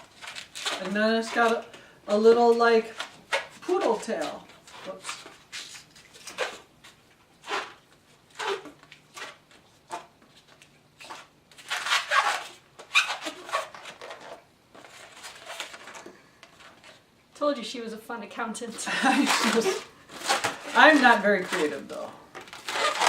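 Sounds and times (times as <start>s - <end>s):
balloons squeaking and rubbing: 0.0s - 17.0s, 18.8s - 23.0s.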